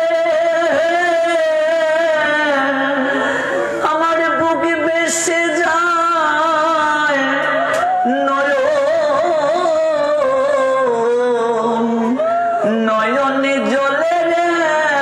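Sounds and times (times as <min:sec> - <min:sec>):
man singing: 0:00.0 - 0:15.0.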